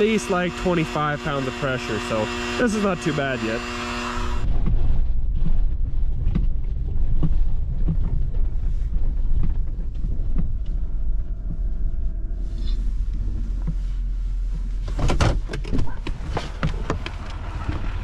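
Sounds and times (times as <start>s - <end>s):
low road rumble: 0.0s - 18.0s
steady hum: 0.0s - 18.0s.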